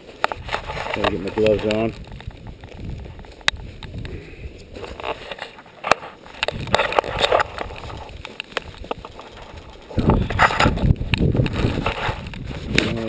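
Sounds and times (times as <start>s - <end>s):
clothing rustling and crackling: 0.0s - 13.0s.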